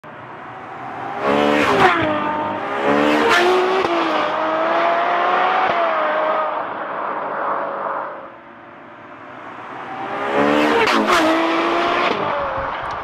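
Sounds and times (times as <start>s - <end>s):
sports car accelerating past: 0.3s - 12.8s.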